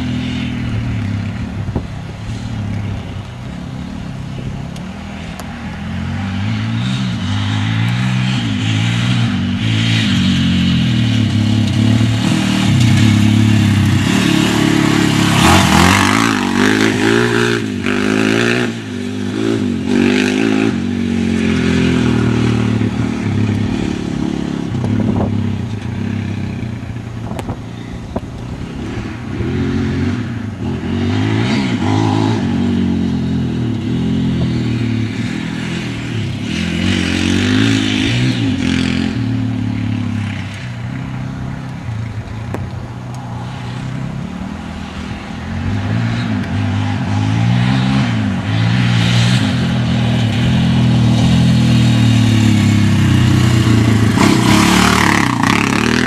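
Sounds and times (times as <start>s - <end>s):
atv engine revving: 0.0s - 42.5s, 43.2s - 56.0s.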